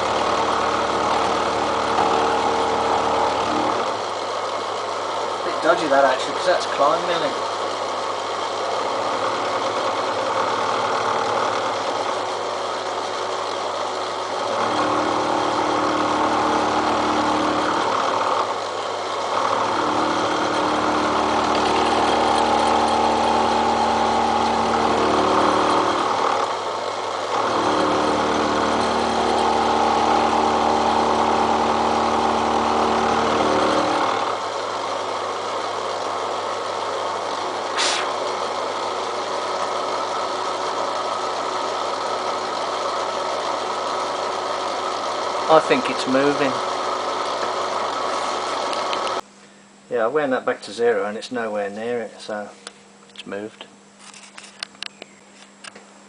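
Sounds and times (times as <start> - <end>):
cutter cutting steel: 0.0 - 4.4, 8.5 - 49.2
milling machine motor hum: 0.0 - 49.8.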